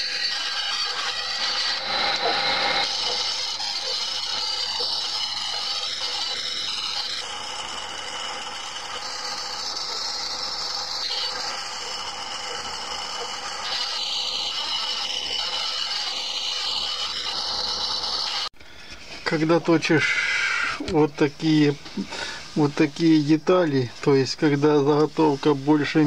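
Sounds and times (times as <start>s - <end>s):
lathe tool scraping wood: 0.0s - 26.0s.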